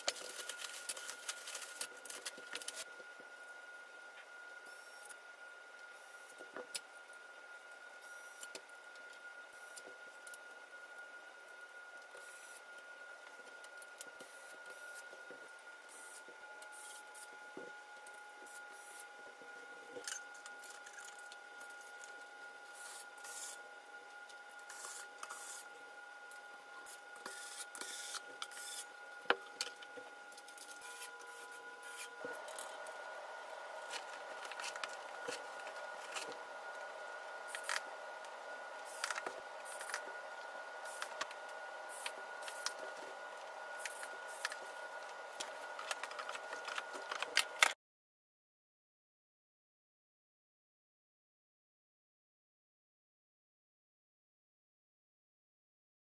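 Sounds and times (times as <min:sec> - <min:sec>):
faint hum: 0:00.0 - 0:47.8.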